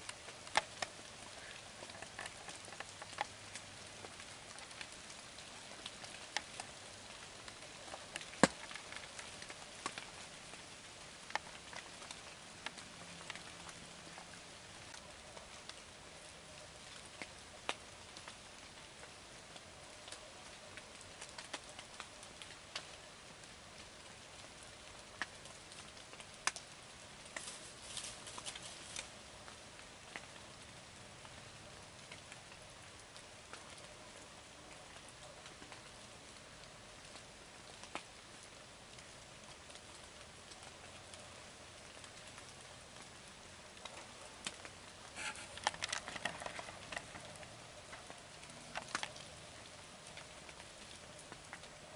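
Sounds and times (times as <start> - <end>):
light rain patter: 0.0 - 51.9
raindrop ticks: 0.0 - 51.9.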